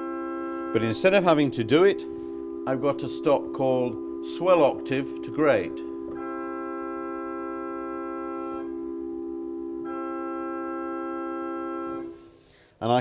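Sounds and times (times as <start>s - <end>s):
higher organ octave pitches: 0.0s - 12.2s
pipe organ chord: 0.0s - 12.4s.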